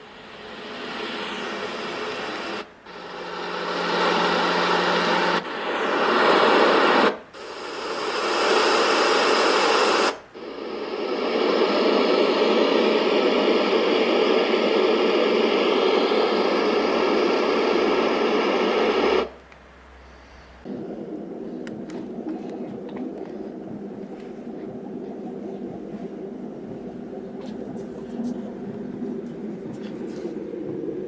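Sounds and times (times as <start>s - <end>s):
white-noise machine hissing: 0.0s - 31.0s.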